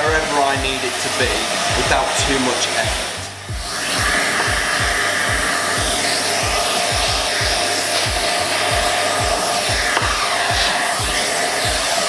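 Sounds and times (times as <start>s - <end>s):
background music with low beat: 0.0s - 12.0s
vacuum cleaner rushing air: 0.0s - 12.0s.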